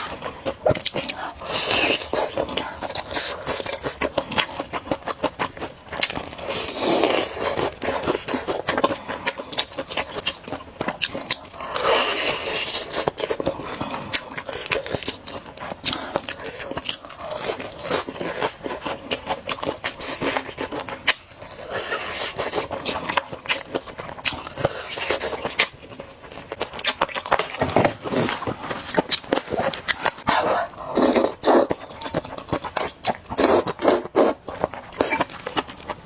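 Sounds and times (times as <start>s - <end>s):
chewing and crunching: 0.0s - 36.0s.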